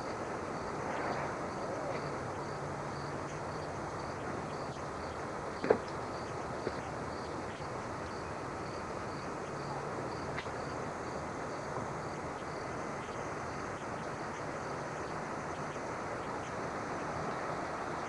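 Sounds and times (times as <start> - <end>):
background hiss: 0.0 - 18.0
crickets chirping: 0.0 - 18.0.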